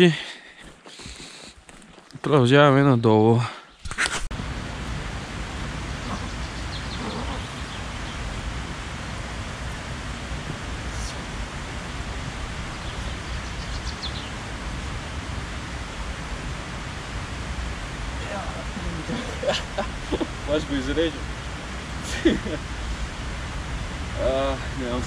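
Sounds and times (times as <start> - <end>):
steady rushing outdoor noise: 4.3 - 25.0.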